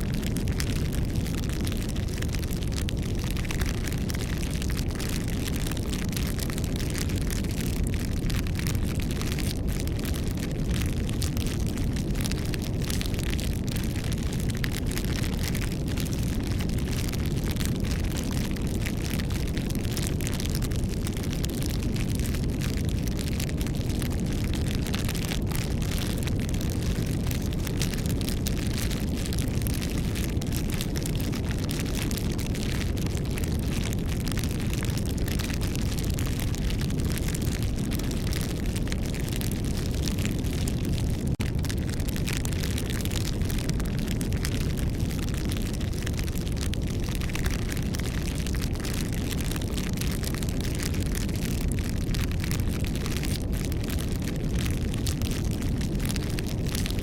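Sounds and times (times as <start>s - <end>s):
burning wood crackling and popping: 0.0s - 57.0s
low rumble of flame: 0.0s - 57.0s.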